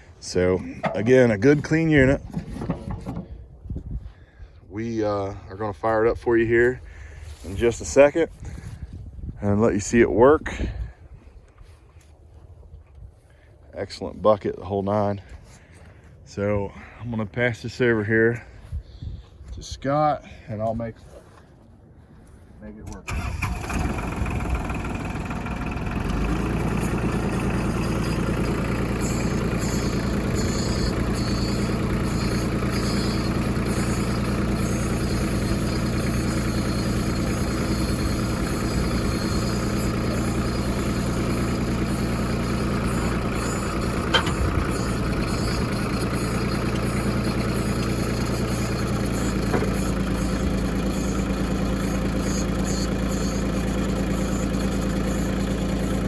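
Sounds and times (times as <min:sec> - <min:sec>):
tractor diesel engine running: 0:00.0 - 0:12.1, 0:20.8 - 0:56.0.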